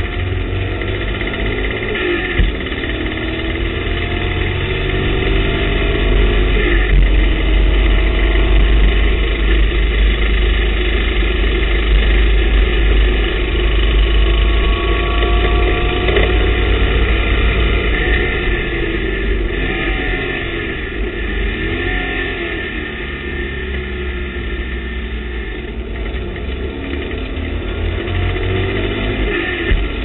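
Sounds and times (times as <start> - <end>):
race car engine accelerating: 0.0 - 30.0.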